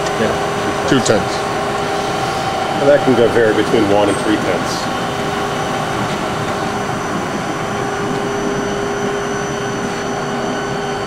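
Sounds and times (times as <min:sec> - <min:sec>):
grinder machine humming: 0:00.0 - 0:11.0
faint high whines: 0:00.3 - 0:11.0.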